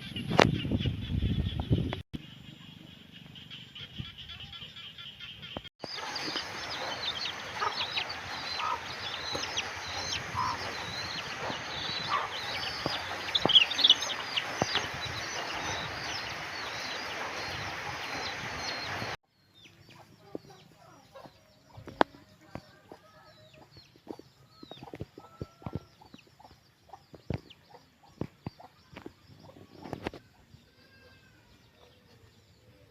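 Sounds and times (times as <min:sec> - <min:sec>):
chickens clucking: 0:00.0 - 0:19.2, 0:19.8 - 0:30.5.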